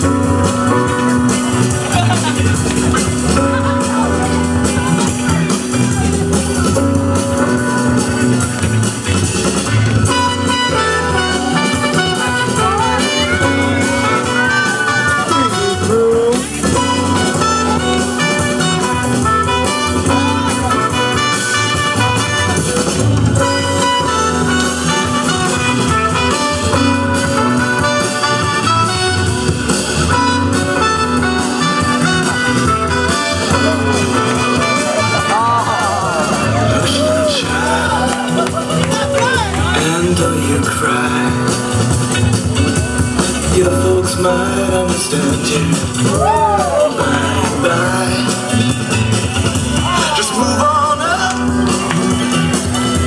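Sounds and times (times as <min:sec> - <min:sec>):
loud music over pa speaker: 0:00.0 - 0:53.0.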